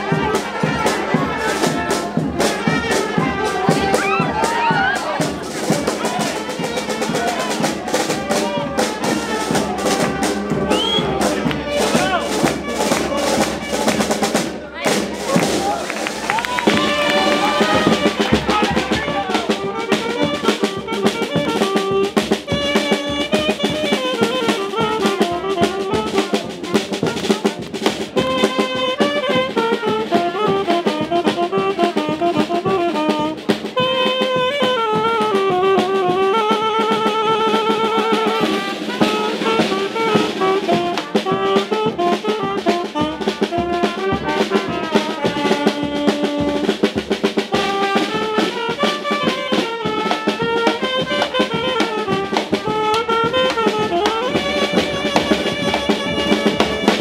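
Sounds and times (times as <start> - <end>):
bass drum and snare beat: 0.0 - 57.0
brass band melody: 0.0 - 57.0.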